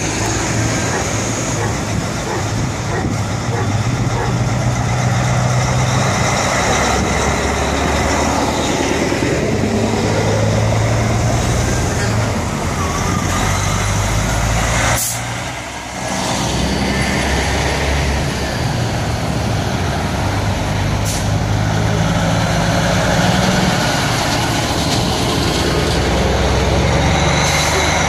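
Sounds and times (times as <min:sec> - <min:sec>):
diesel trucks driving past: 0:00.0 - 0:28.0.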